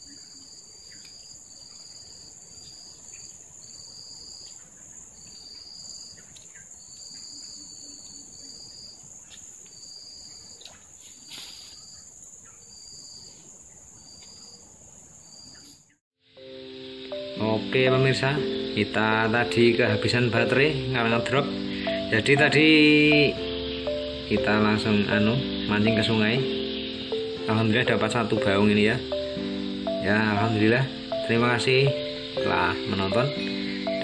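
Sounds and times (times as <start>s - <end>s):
insect high-pitched buzz: 0.0s - 34.0s
insect short chirps: 0.0s - 34.0s.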